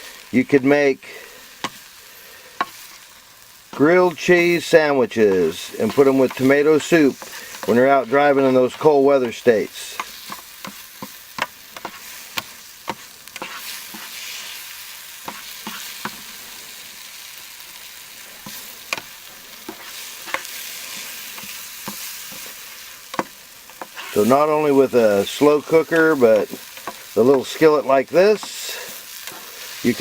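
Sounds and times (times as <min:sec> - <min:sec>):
eggs sizzling in a skillet: 0:00.0 - 0:30.0.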